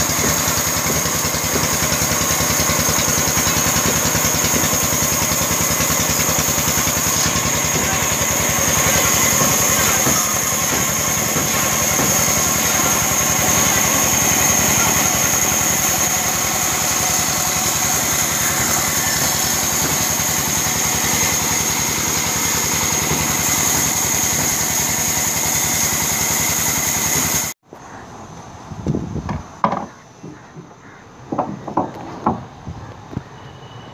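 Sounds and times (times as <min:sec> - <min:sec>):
band saw cutting wood: 0:00.0 - 0:27.6.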